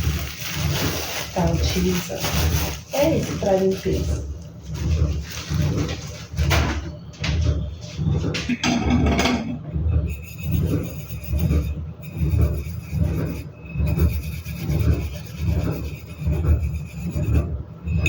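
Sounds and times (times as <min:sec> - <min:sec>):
steel wool scrubbing stove: 0:00.0 - 0:18.0.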